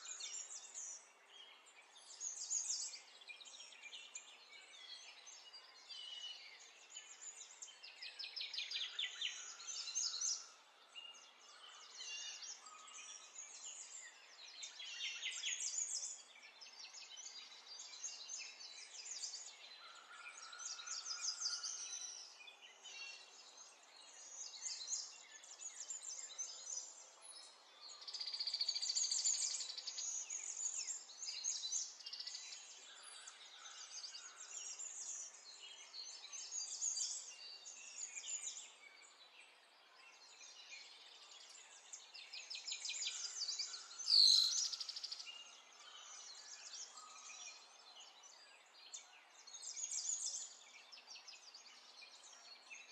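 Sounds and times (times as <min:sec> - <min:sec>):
small birds chirping and trilling: 0:00.0 - 0:52.9.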